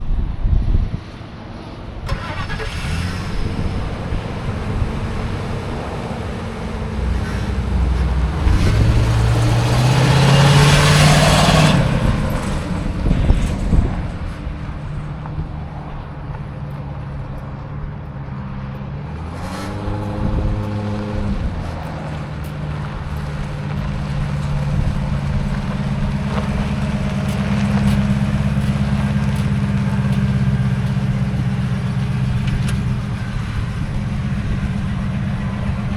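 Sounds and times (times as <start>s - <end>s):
pickup truck engine revving: 1.8s - 16.1s, 19.0s - 35.9s.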